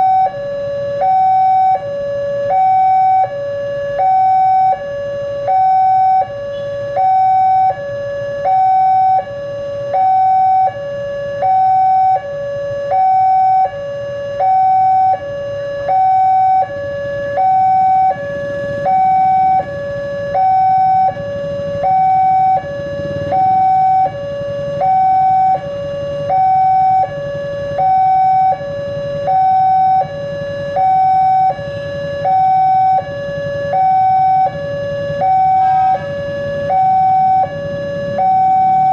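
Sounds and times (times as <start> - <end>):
low rumble of traffic: 0.0 - 38.9
two-tone level crossing alarm: 0.0 - 38.9.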